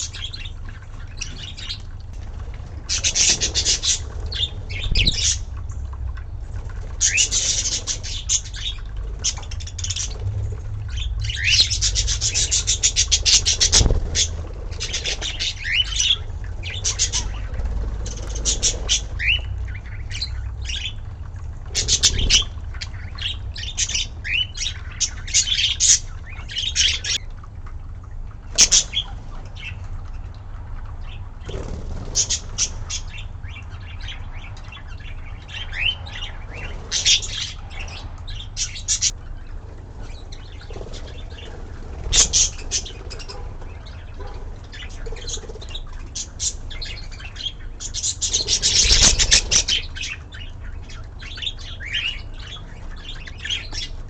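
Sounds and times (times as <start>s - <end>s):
steady low hum: 0.0s - 54.0s
budgerigars chirping and chattering: 2.8s - 5.6s, 6.7s - 27.2s, 28.5s - 30.4s, 31.0s - 54.0s.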